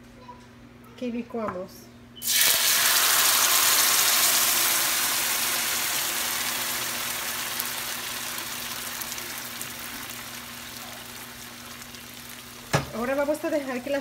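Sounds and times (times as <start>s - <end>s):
sauce sizzling in frying pan: 2.2s - 14.0s.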